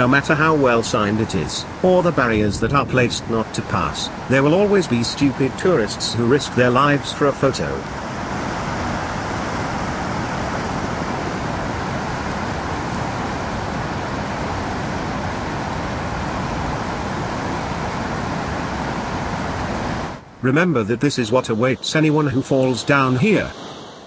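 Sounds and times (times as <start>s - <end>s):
waterfall roaring: 0.0s - 23.4s.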